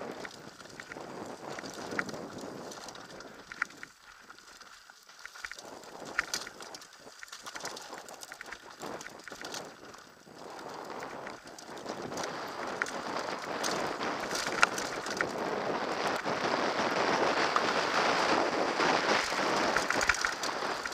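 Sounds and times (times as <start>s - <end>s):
bike clicking and rattling: 0.0s - 20.9s.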